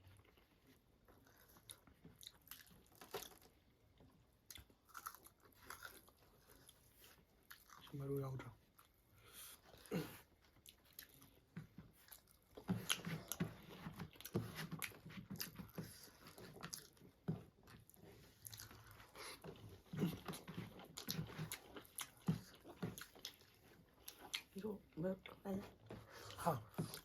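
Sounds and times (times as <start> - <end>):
chewing with wet mouth clicks: 0.1 - 7.9, 9.6 - 24.6.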